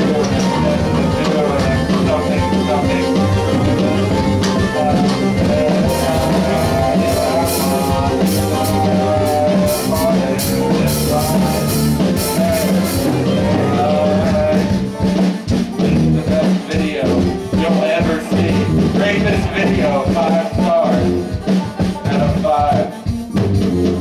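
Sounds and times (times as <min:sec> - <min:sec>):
bass line: 0:00.0 - 0:24.0
drum kit playing: 0:00.0 - 0:24.0
keyboard: 0:00.0 - 0:24.0.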